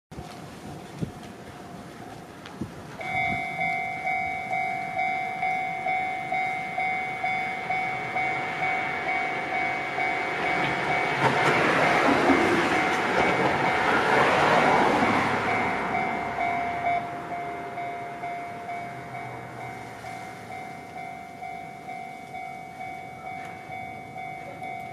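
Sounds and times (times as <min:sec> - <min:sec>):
approaching train: 0:00.1 - 0:24.9
level-crossing warning bell: 0:02.9 - 0:24.9.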